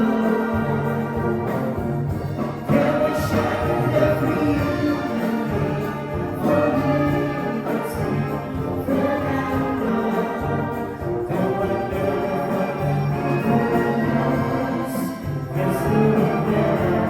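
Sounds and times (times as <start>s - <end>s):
wind band playing brass chords: 0.0s - 17.0s.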